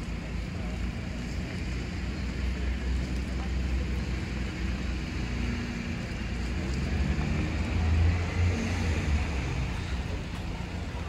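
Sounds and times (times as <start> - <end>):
traffic noise: 0.0 - 11.0
vehicle engine rumbling: 0.0 - 11.0.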